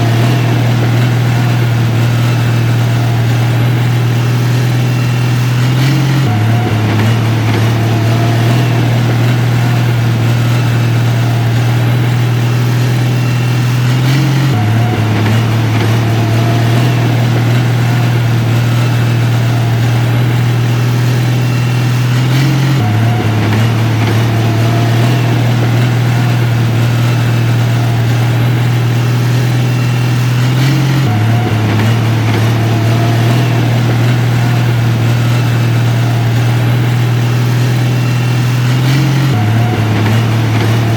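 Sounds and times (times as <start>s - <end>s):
heavy machine engine droning: 0.0s - 40.9s.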